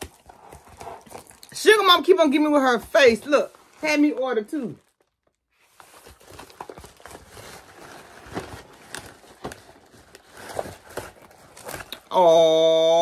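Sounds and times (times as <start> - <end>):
plastic mailer crinkling: 0.0 - 12.2.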